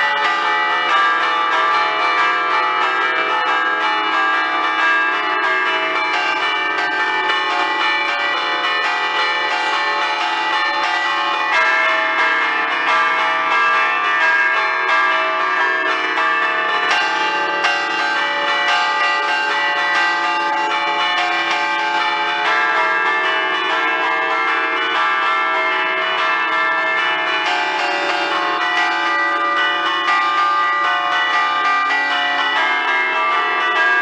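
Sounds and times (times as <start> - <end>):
church bells chiming: 0.0 - 34.0.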